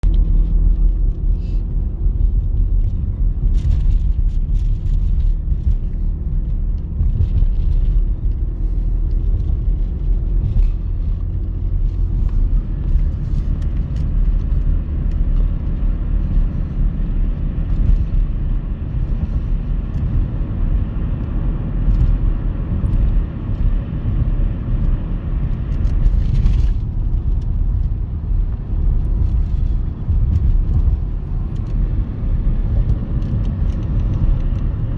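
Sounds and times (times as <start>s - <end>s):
diesel locomotive rumbling: 0.0s - 34.9s.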